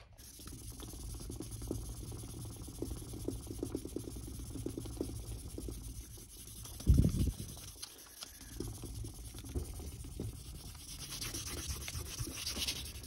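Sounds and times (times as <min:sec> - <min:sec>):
sandpaper scrubbing painted surface: 0:00.2 - 0:13.0.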